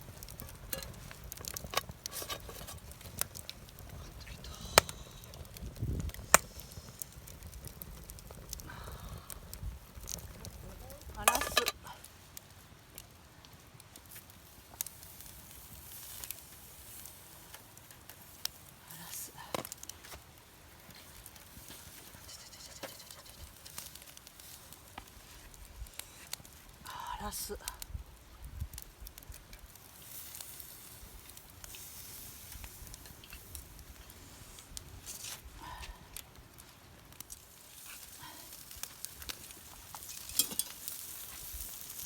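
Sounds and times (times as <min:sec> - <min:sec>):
campfire crackling and popping: 0:00.0 - 0:42.0
fire hissing: 0:00.0 - 0:42.0.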